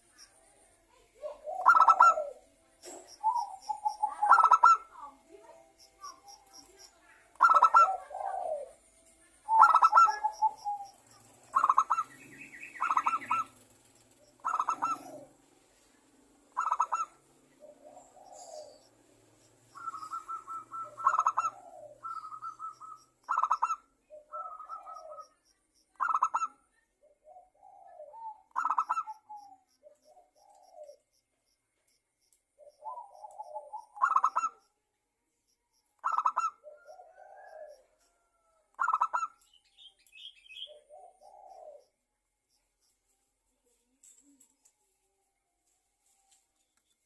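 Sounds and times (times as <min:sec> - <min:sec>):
dove cooing: 0:00.0 - 0:31.1, 0:32.6 - 0:34.7, 0:36.0 - 0:39.4, 0:40.2 - 0:42.0.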